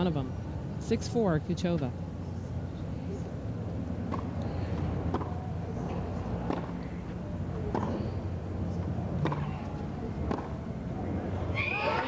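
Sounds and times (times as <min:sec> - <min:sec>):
low stadium hum: 0:00.0 - 0:12.0.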